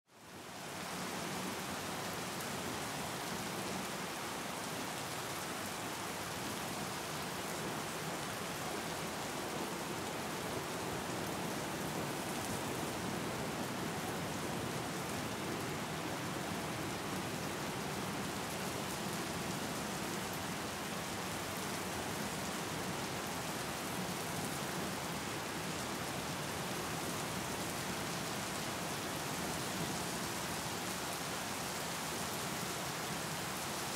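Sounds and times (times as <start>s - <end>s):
rain falling on water: 0.1s - 33.9s.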